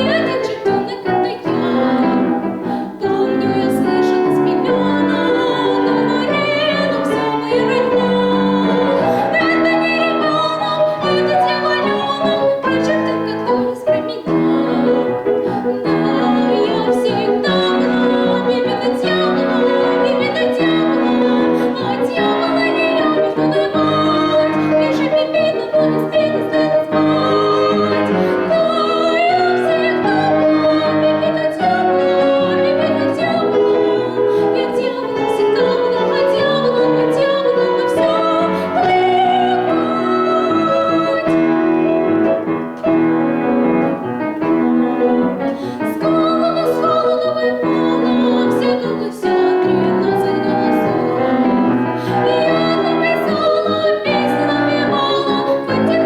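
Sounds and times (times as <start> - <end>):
girl singing with vibrato: 0.0 - 41.7, 45.6 - 56.0
piano accompaniment: 0.0 - 56.0.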